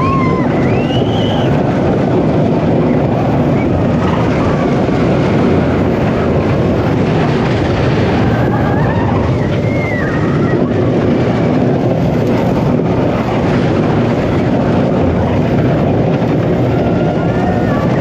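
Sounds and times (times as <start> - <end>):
roller coaster rumbling on track: 0.0 - 18.0.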